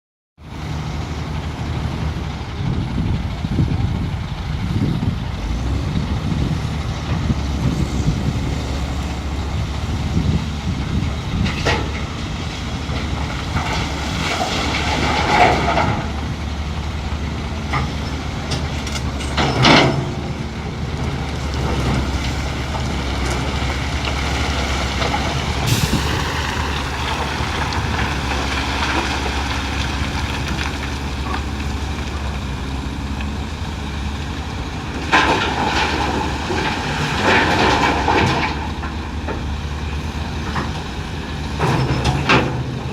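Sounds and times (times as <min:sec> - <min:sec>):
heavy diesel machinery drone: 0:00.4 - 0:42.9.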